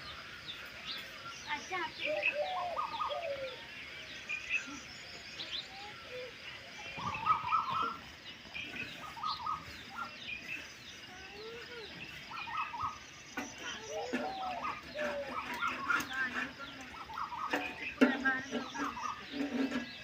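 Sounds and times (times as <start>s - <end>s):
birds chirping chorus: 0.0s - 20.0s.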